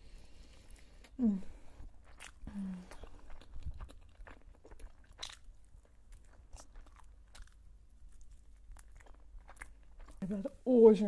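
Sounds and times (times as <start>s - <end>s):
person chewing close to microphone: 0.0s - 10.6s.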